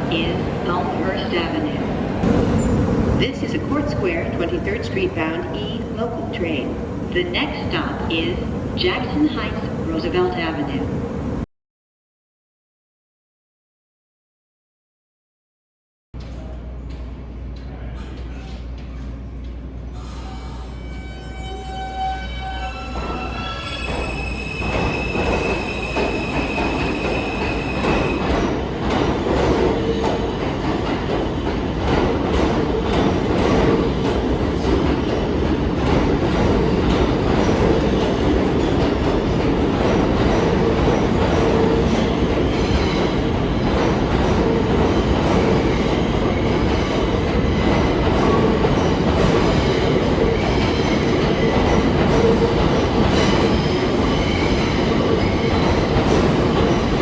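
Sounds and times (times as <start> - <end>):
subway train rumbling: 0.0 - 11.5, 16.2 - 57.0.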